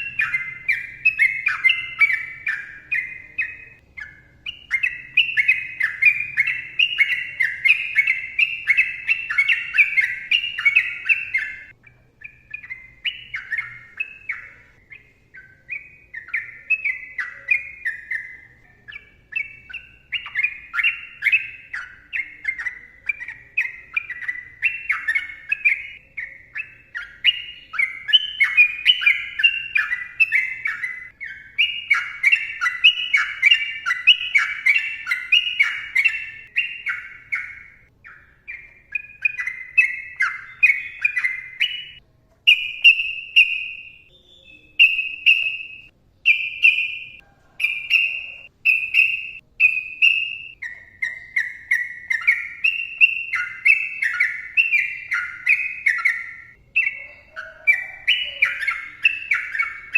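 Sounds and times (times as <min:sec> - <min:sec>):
bird singing chattering notes: 0:00.0 - 0:59.9.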